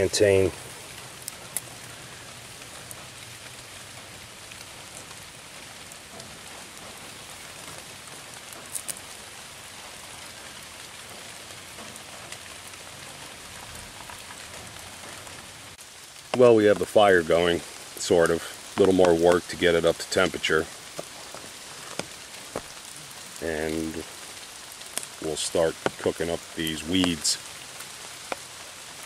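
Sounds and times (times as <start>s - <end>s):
rain on leaves and ground: 0.0s - 29.0s.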